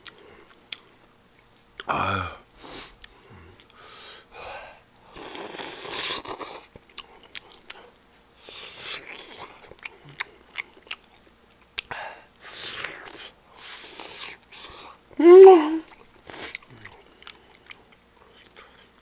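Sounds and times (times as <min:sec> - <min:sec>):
chewing and mouth smacking: 0:00.0 - 0:01.9, 0:02.8 - 0:03.8, 0:05.0 - 0:15.0, 0:15.8 - 0:19.0.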